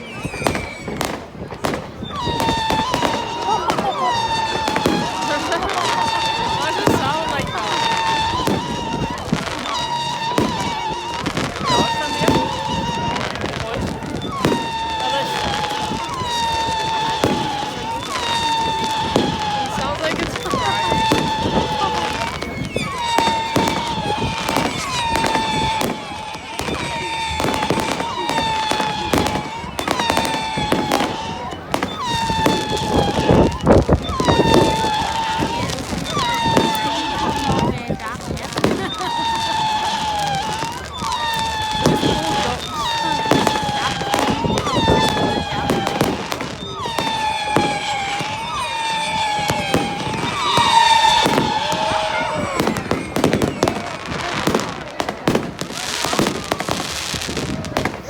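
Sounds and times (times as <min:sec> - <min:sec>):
fireworks bangs and crackles: 0:00.0 - 0:58.0
high whistling tone: 0:00.0 - 0:58.0.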